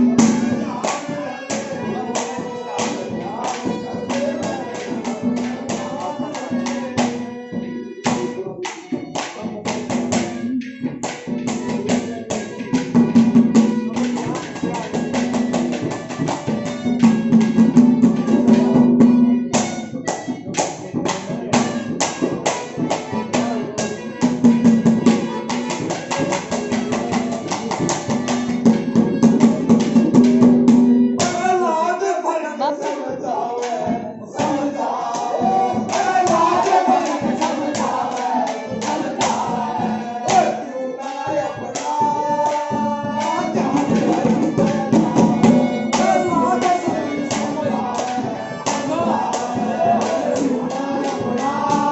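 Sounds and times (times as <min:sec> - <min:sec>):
fast percussion rhythm: 0:00.0 - 0:31.8, 0:33.6 - 0:51.9.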